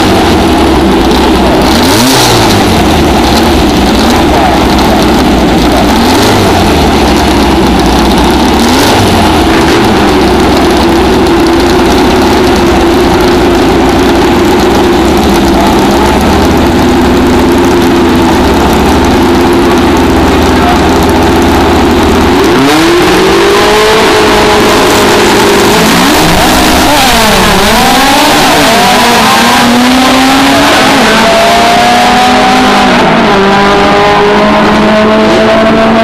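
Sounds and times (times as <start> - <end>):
drag race cars launching: 0.0 - 36.0.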